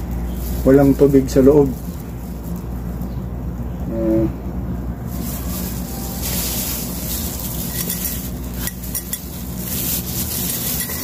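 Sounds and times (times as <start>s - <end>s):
plastic glove rustling: 0.0s - 3.2s, 5.0s - 11.0s.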